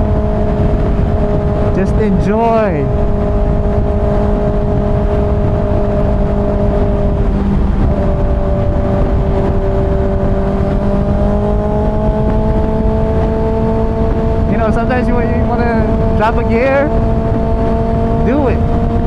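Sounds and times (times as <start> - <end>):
motorcycle engine running: 0.0 - 19.0
wind rush: 0.0 - 19.0.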